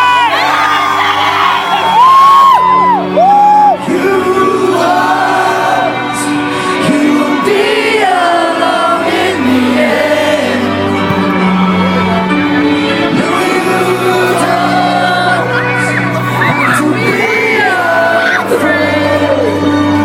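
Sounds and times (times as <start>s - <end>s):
live rock band: 0.1s - 20.0s
person singing: 2.5s - 20.0s.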